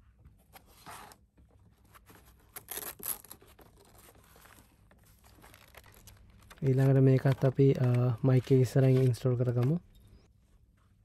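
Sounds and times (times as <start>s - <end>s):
paper and foam packing rustling: 0.7s - 9.8s.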